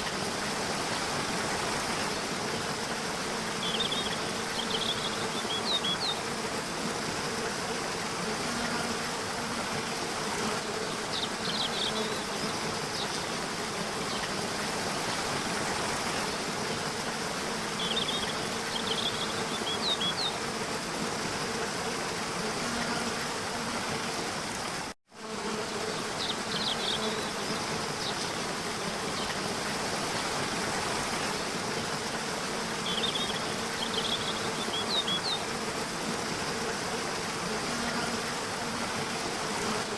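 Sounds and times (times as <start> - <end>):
faint steady buzz: 0.0 - 39.9.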